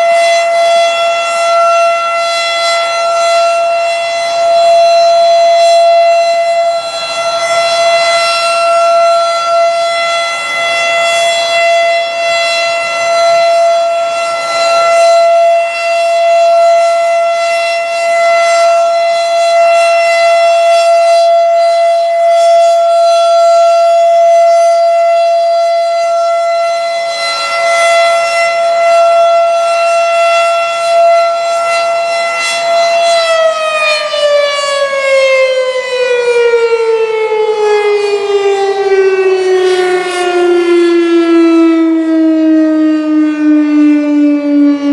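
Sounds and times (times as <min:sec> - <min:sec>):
rotating warning siren: 0:00.0 - 0:44.9.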